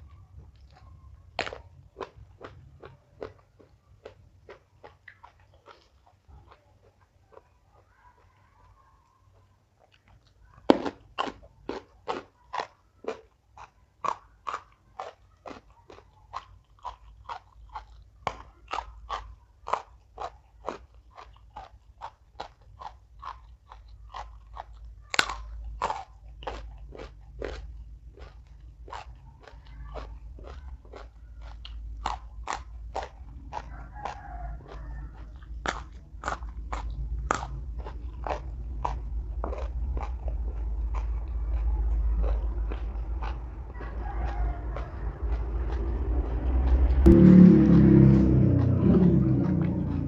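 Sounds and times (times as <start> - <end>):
crunchy vegetable chewing: 0.0 - 50.0.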